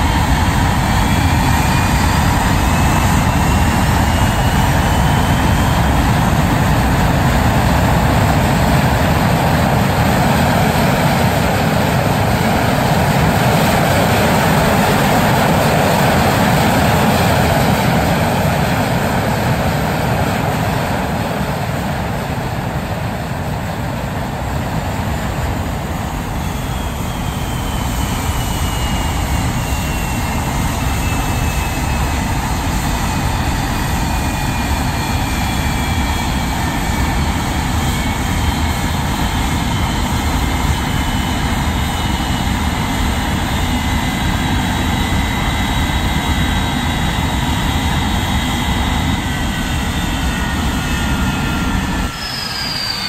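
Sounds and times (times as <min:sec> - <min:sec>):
jet engine rumble: 0:00.0 - 0:53.0
jet engine whine falling: 0:00.0 - 0:53.0.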